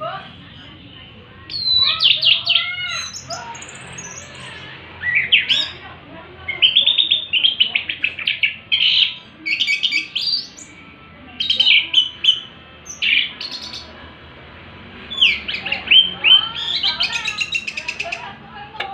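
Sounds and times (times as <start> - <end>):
thrush singing: 0.0 - 18.9.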